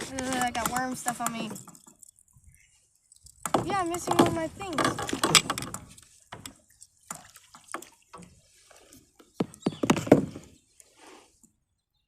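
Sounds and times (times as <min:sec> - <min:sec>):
water dripping and splashing: 0:00.0 - 0:11.0.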